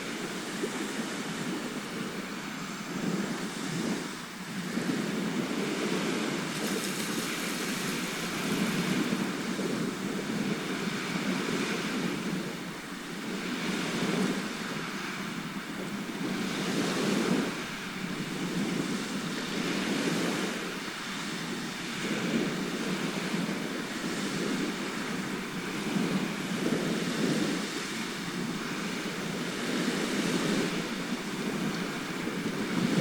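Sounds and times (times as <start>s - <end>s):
sea waves washing in: 0.0s - 33.0s.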